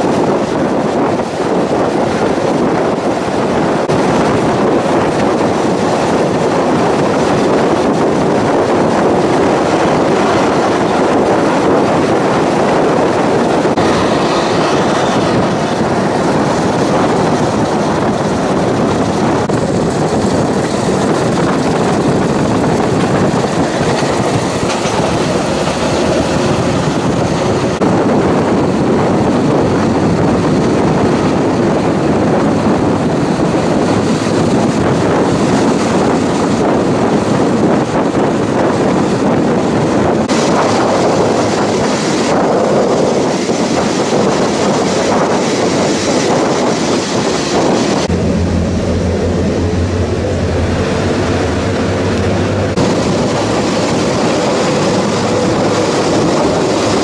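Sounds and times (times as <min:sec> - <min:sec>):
diesel railcar running: 0:00.0 - 0:57.0.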